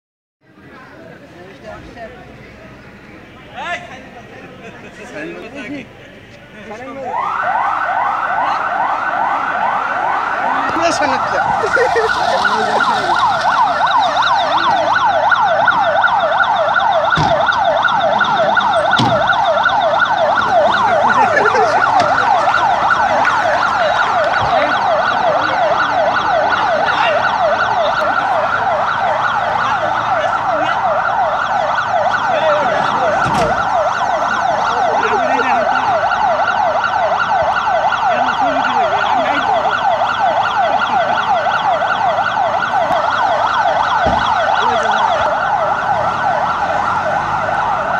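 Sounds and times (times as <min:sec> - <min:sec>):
ambulance siren yelping: 0:06.7 - 0:47.9.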